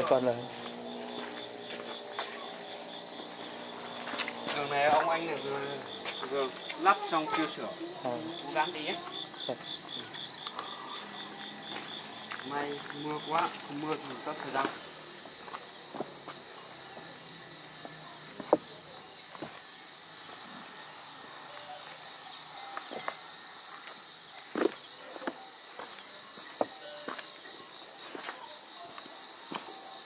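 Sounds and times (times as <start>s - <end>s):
footsteps on stony path: 0.0s - 7.6s, 8.5s - 20.4s, 22.7s - 29.9s
crickets trilling: 0.0s - 30.0s.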